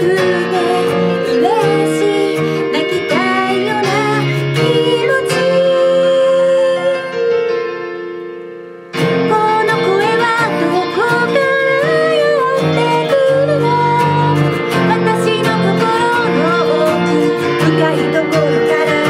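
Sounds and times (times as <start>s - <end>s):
strummed acoustic guitar: 0.0s - 6.8s, 8.9s - 19.0s
woman singing: 0.0s - 7.4s, 9.1s - 19.0s.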